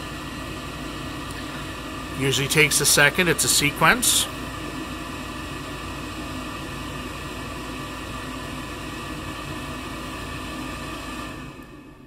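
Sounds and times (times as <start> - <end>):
furnace motor humming: 0.0 - 12.0.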